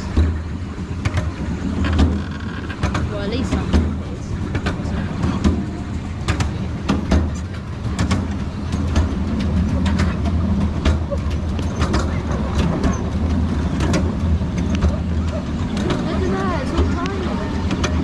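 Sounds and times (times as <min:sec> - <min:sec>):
miniature train rumbling: 0:00.0 - 0:18.0
wheels clicking and rattling: 0:00.0 - 0:18.0.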